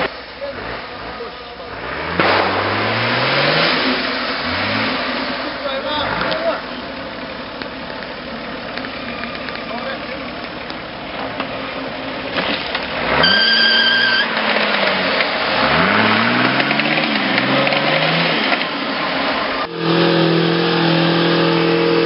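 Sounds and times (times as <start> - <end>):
off-road engine revving hard: 0.0 - 7.2, 11.3 - 22.0
tyre and mud noise: 0.0 - 22.0.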